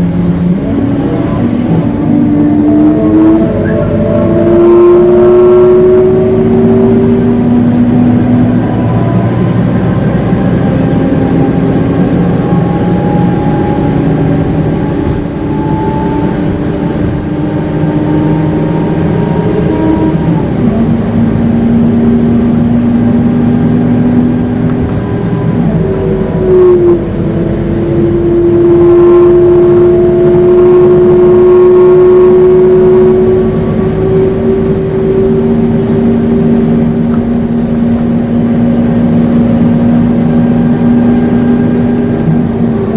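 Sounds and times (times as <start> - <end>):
bus engine howling: 0.0 - 42.9.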